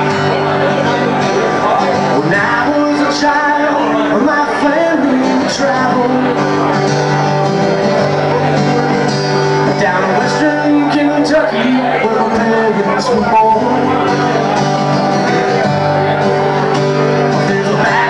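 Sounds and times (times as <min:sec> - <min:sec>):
acoustic and electric guitars: 0:00.0 - 0:18.0
person singing: 0:00.0 - 0:18.0.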